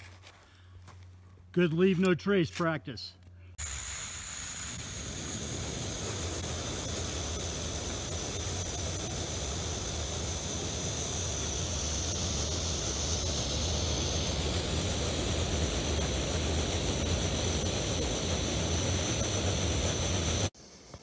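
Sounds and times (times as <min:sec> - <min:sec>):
low hum: 0:03.2 - 0:20.5
stove burner rushing: 0:03.6 - 0:20.6.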